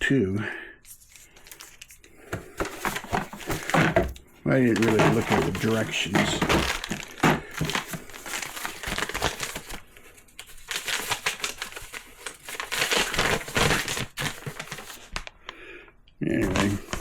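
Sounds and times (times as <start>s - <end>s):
paper and plastic crinkling: 0.8s - 15.5s, 16.4s - 17.0s.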